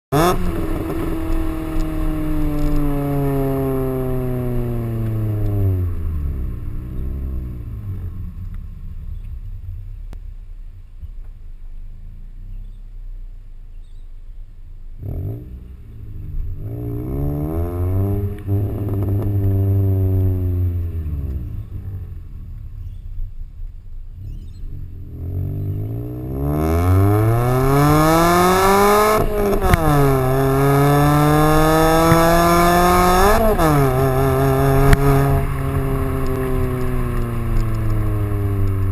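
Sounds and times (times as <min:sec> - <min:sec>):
car engine revving and accelerating: 0:00.1 - 0:09.2, 0:14.9 - 0:23.0, 0:24.1 - 0:38.9.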